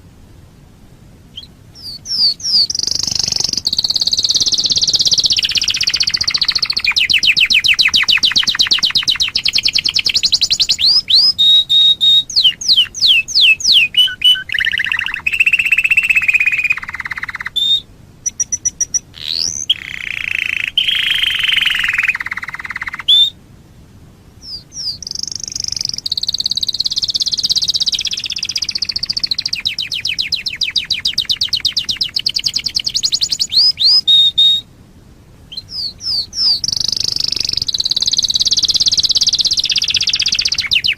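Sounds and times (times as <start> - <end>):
canary singing trills: 1.3 - 23.4, 24.4 - 34.7, 35.5 - 40.9.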